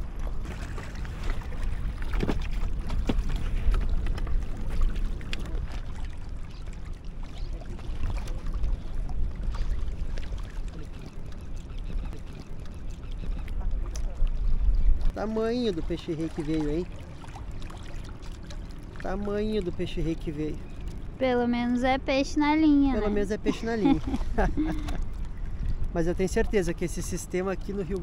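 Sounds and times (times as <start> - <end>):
wind rumbling on microphone: 0.0 - 15.5, 16.8 - 28.0.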